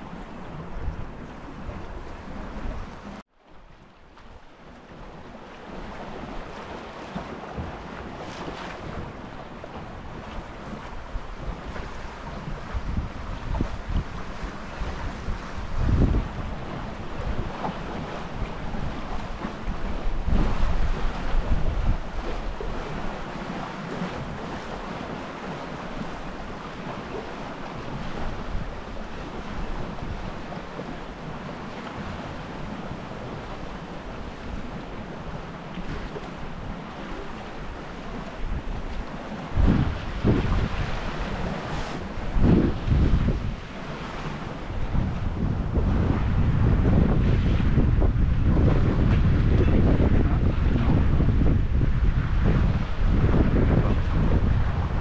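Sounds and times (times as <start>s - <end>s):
wind buffeting microphone: 0.0s - 3.2s, 4.3s - 55.0s
water rushing along hull: 0.0s - 55.0s.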